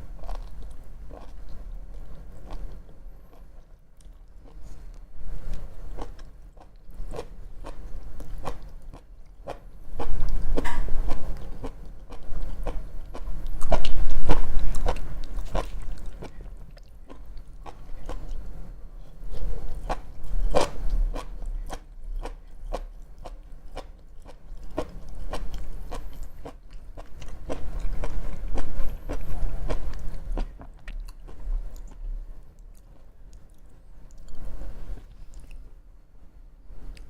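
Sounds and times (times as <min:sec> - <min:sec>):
chewing food: 0:00.1 - 0:35.7.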